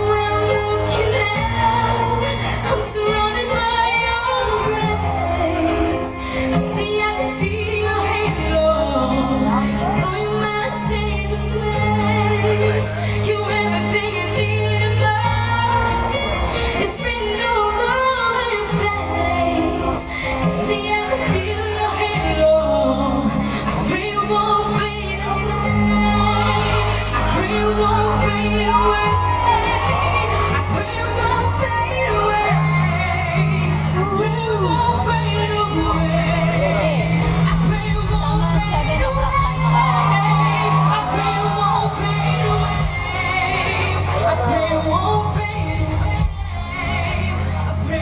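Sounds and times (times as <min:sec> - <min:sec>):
amplified accompaniment bass notes: 0:00.0 - 0:48.0
woman singing pop song: 0:00.0 - 0:48.0.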